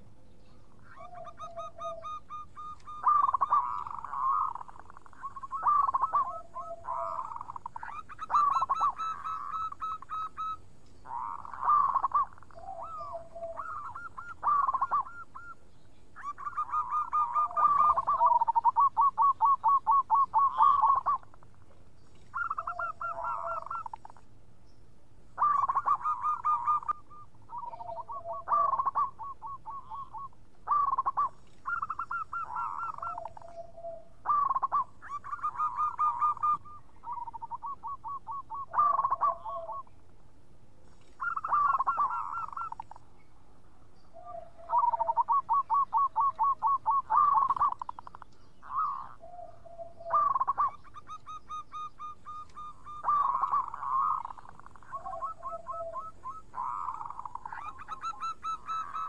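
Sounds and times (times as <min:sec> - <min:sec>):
dove cooing: 0:00.8 - 0:15.6, 0:16.2 - 0:21.4, 0:22.1 - 0:24.2, 0:25.4 - 0:39.9, 0:41.0 - 0:43.0, 0:44.1 - 0:59.0.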